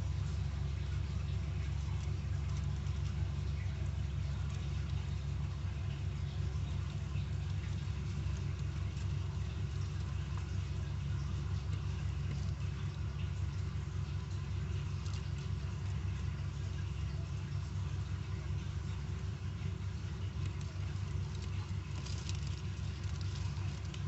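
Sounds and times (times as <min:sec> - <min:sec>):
faint light ticks and rustles: 0:00.0 - 0:24.0
low machine hum: 0:00.0 - 0:24.0.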